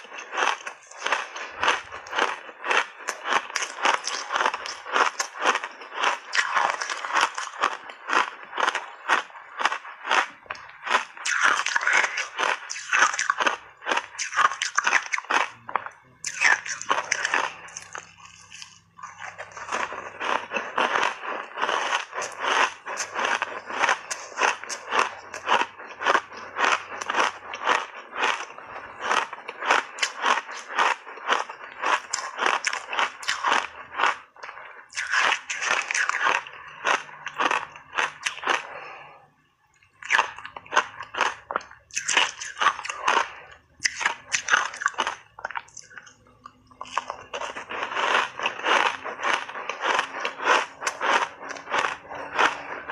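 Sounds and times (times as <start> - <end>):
ice being crunched and chewed: 0.0 - 52.9.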